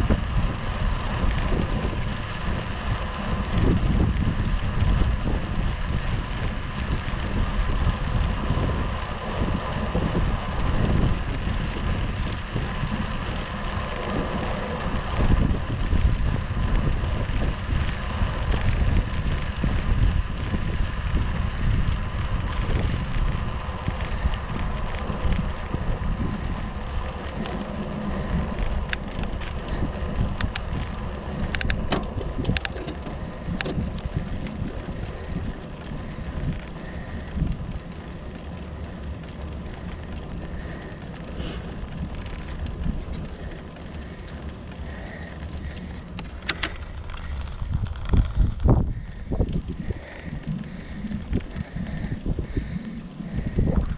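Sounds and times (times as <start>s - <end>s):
bicycle tyres rolling on tarmac: 0.0s - 53.9s
wind buffeting microphone: 0.0s - 53.9s.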